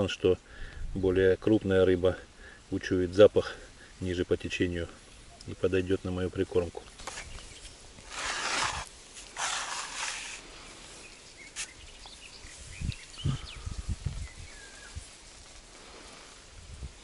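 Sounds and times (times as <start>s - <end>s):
rustling reeds and grass: 1.2s - 17.0s.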